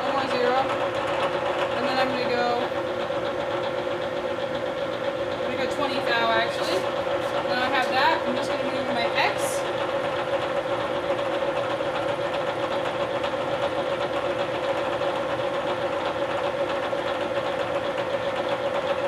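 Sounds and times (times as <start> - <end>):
end mill cutting aluminium: 0.0 - 19.0
milling machine spindle hum: 0.0 - 19.0.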